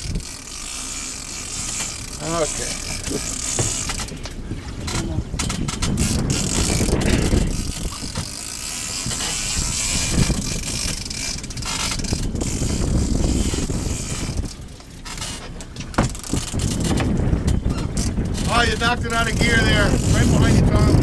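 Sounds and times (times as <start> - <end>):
low boat engine rumble: 0.0 - 21.0
wind rushing over microphone: 2.0 - 8.4, 9.0 - 14.8, 15.9 - 21.0.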